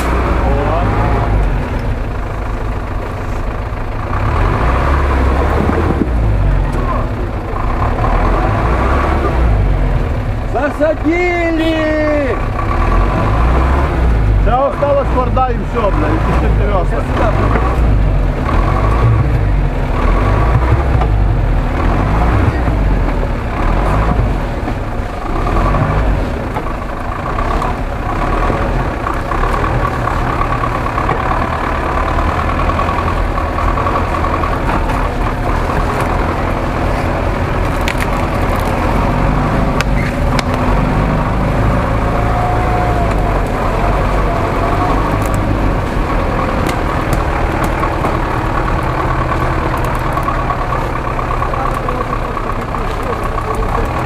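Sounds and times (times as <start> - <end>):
truck engine revving under load: 0.0 - 11.6, 12.3 - 54.0.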